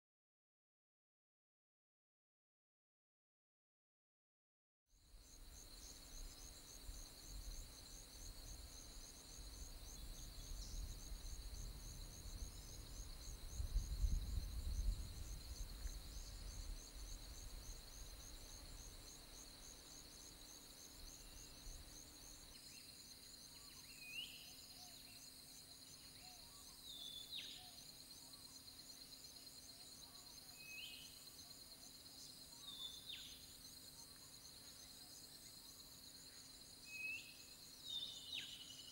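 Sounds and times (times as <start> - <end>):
insects trilling: 5.0 - 38.9.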